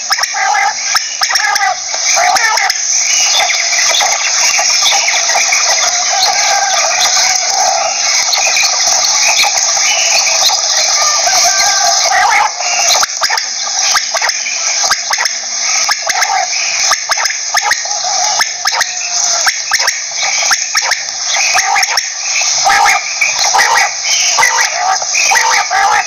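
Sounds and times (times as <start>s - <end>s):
quail calling: 0.0s - 26.0s
steady high hiss: 0.0s - 26.0s.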